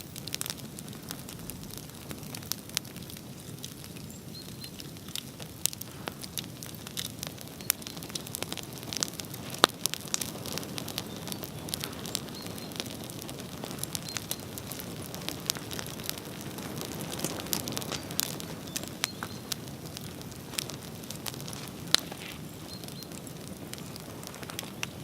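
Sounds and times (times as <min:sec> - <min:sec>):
bonfire crackling: 0:00.0 - 0:25.0.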